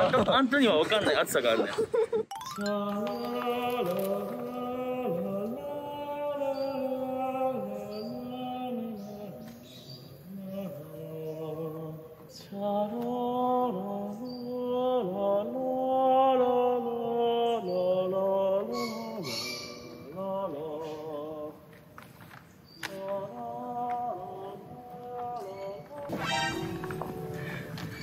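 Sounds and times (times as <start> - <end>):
slow chant-like melody: 2.6 - 21.8, 22.8 - 28.0.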